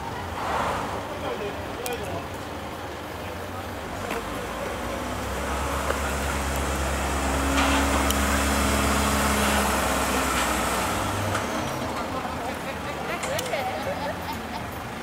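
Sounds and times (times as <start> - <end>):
minivan engine under load: 0.0 - 15.0.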